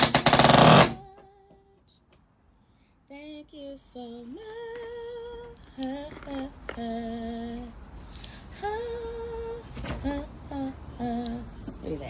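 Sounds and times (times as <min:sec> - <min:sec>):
woman singing slow melody: 0:00.7 - 0:02.1, 0:03.0 - 0:12.0.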